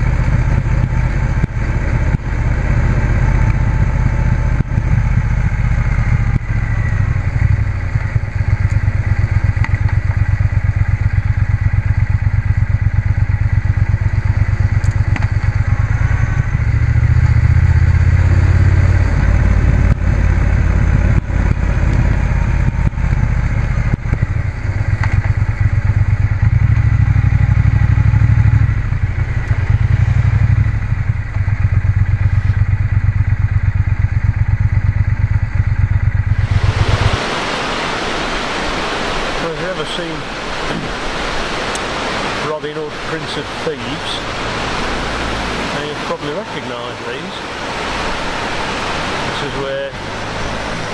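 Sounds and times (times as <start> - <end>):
motorcycle engine running: 0.0 - 41.4.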